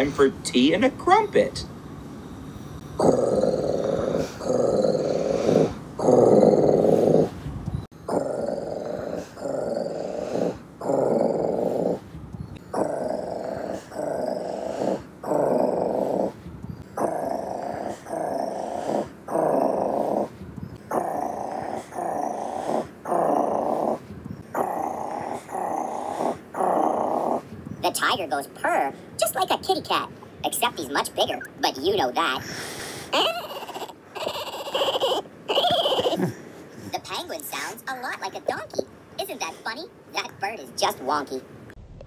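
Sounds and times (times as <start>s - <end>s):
tiger purring: 2.8s - 29.3s, 30.5s - 41.2s.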